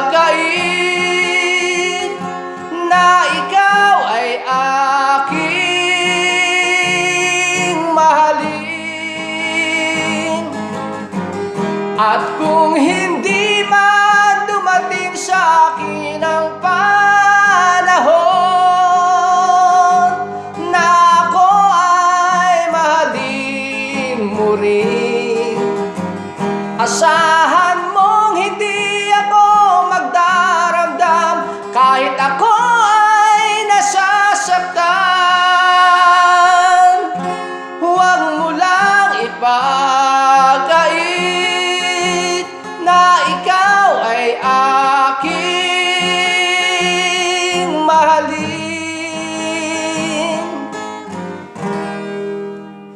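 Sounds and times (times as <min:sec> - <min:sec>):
person singing a ballad: 0:00.0 - 0:52.8
acoustic guitar: 0:00.0 - 0:52.9.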